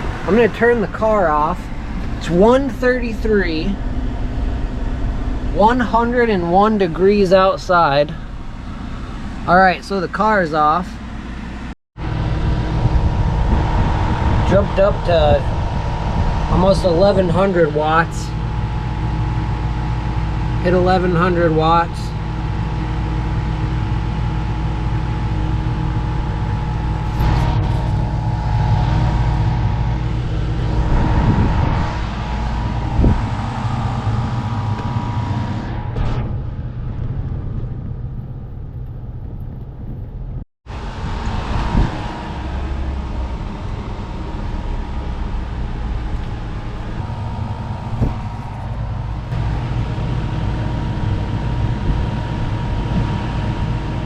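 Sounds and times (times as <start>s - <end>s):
air conditioner hum: 0.0s - 54.0s.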